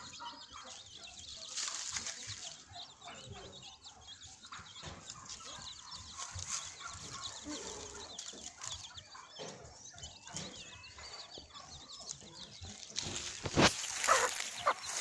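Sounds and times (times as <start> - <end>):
chicks peeping: 0.0 - 15.0
hen clucking: 0.0 - 15.0.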